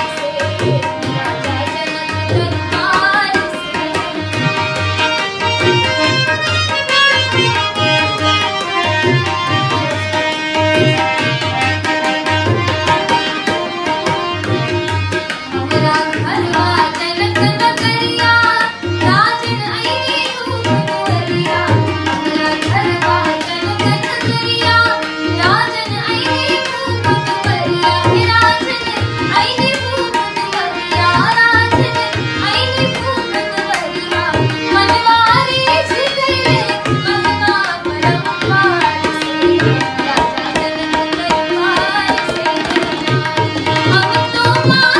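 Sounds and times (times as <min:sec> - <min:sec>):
woman singing: 0:00.0 - 0:11.4, 0:15.5 - 0:44.9
harmonium chords: 0:00.0 - 0:44.9
tabla rhythm: 0:00.0 - 0:44.9.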